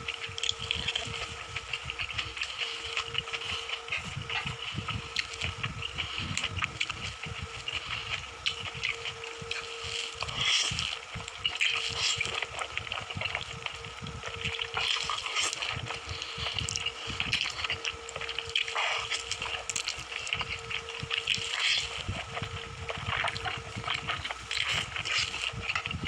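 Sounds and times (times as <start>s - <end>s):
faint hum: 0.0s - 26.0s
wet chewing: 0.1s - 26.0s.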